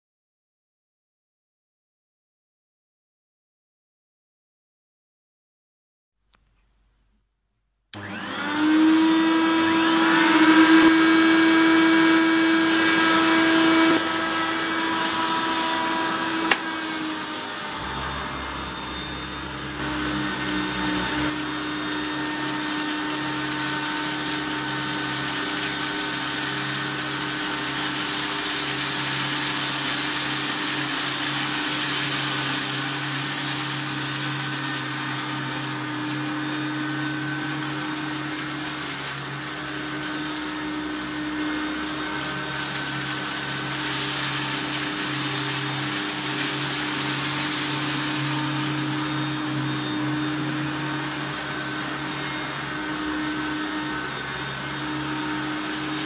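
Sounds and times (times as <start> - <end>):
vacuum cleaner running: 7.9 - 56.0.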